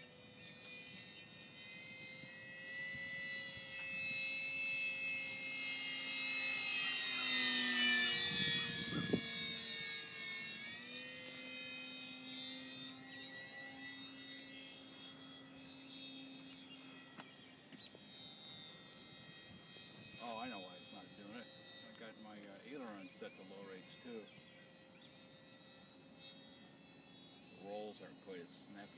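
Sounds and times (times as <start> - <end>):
model plane motor whining: 0.0 - 28.9.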